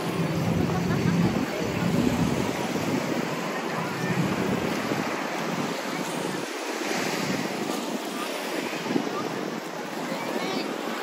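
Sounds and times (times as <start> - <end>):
wind buffeting microphone: 0.0 - 10.8
small surf washing ashore: 0.0 - 11.0.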